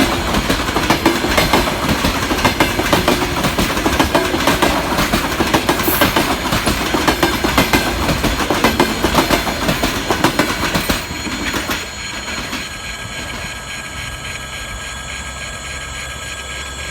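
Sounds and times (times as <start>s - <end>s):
train wheels clattering over rail joints: 0.0s - 16.9s
wheels squealing on rails: 0.0s - 16.9s.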